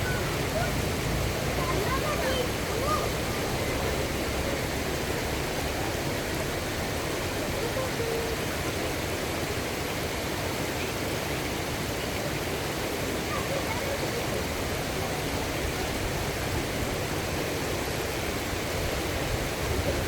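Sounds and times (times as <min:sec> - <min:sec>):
waterfall rushing over rocks: 0:00.0 - 0:20.0.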